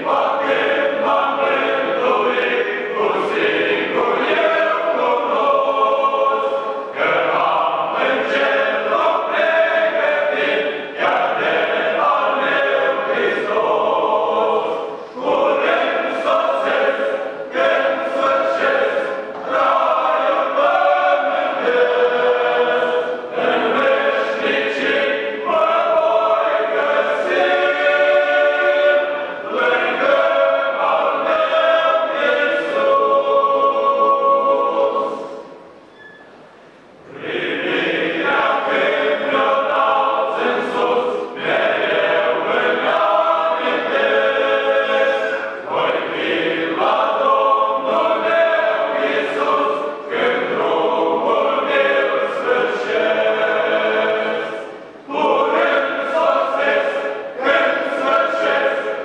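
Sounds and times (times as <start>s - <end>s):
men's choir singing a cappella: 0.0s - 35.7s, 37.1s - 59.0s.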